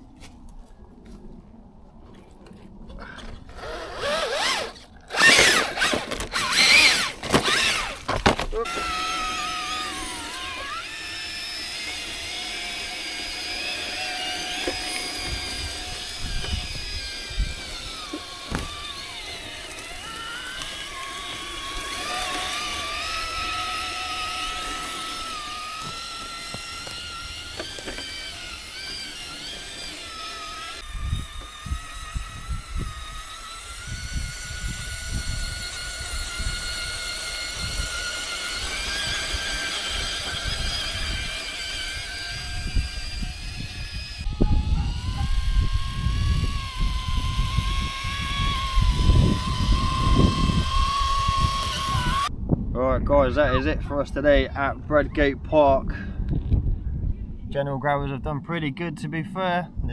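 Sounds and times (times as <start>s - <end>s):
rc car motor and gear whine: 2.4s - 52.3s.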